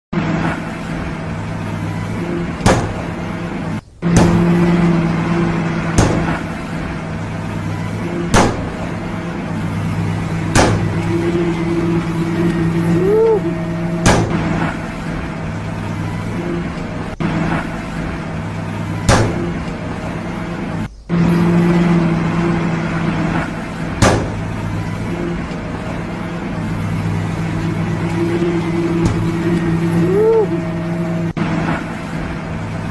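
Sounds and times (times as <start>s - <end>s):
diesel engine running: 0.0s - 32.9s
sharp bangs: 0.3s - 32.3s.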